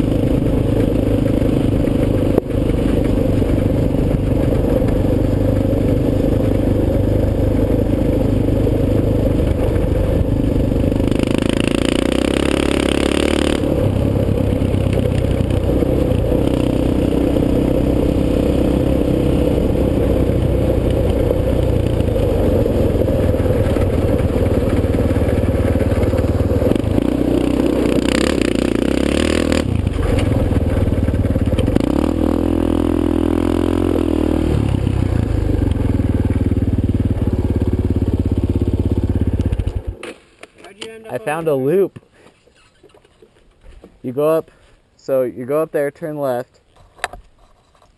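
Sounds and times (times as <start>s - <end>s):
quad bike engine running: 0.0s - 40.0s.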